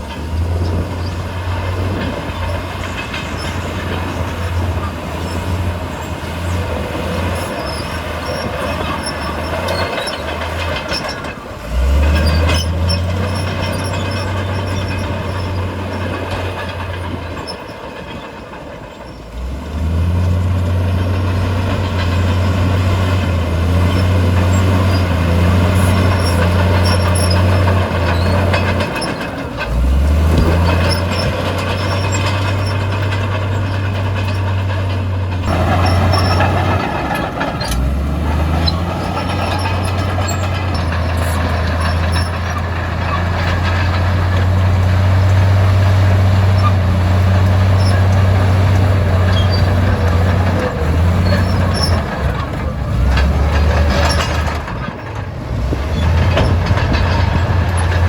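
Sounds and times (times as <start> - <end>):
bulldozer diesel engine working: 0.0 - 58.0
metallic squeaks and clanks: 0.0 - 58.0.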